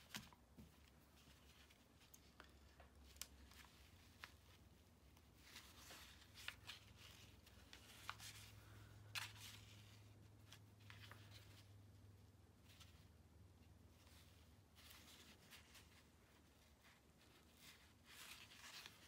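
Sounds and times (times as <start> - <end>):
low steady hum: 0.0 - 19.0
yarn rustling through fabric: 0.0 - 19.0.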